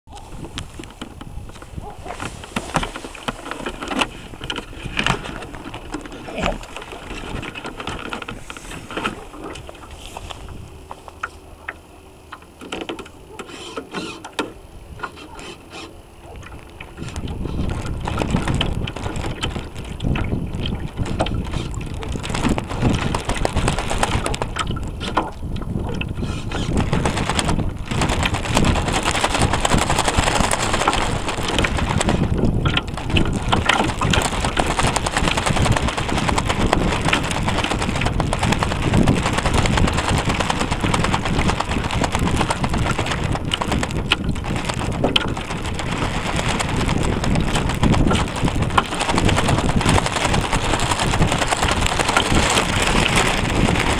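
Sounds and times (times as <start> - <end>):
wind buffeting microphone: 0.0 - 12.6, 14.5 - 53.9
water rushing along hull: 0.0 - 53.9.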